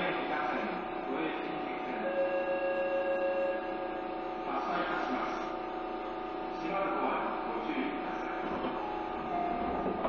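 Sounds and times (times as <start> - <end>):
train motors and wheels humming: 0.0 - 10.0.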